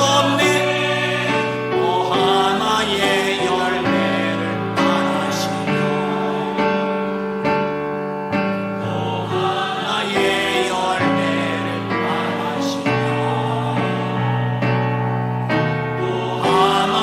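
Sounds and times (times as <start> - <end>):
choir singing gospel song: 0.0 - 17.0.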